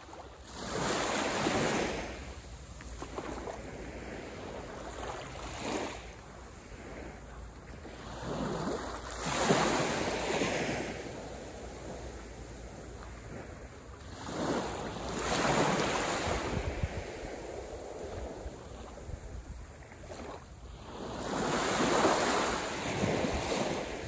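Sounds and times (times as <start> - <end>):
waves washing up a beach: 0.0 - 24.0.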